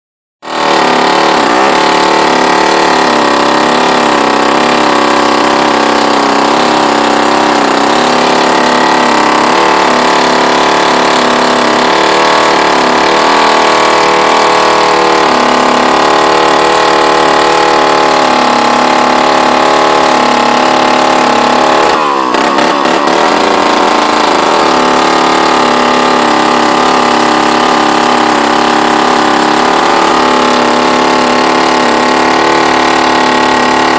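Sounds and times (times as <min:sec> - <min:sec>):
chainsaw cutting wood: 0:00.4 - 0:33.9.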